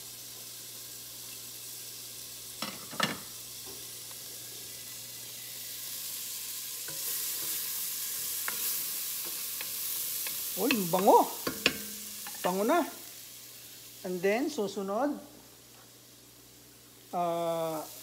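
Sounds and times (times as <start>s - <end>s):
garlic and ginger sizzling: 0.0s - 18.0s.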